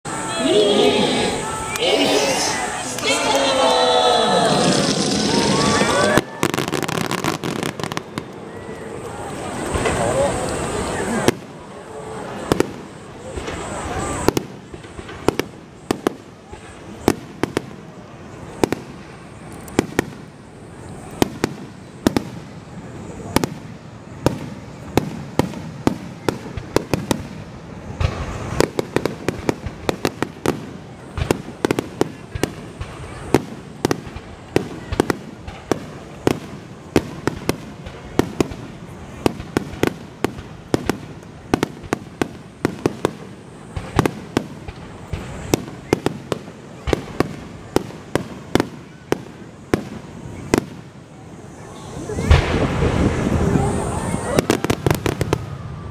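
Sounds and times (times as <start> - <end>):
fireworks bursting: 0.1 - 55.9.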